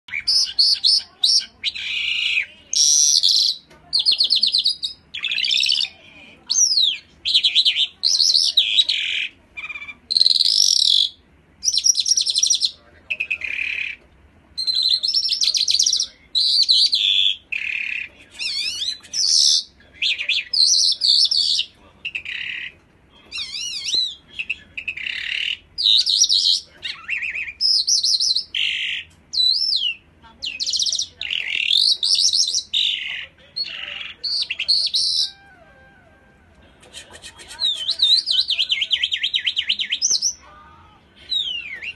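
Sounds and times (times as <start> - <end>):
songbird singing trills: 0.1 - 14.0, 14.6 - 22.7, 23.3 - 35.6, 37.6 - 40.4.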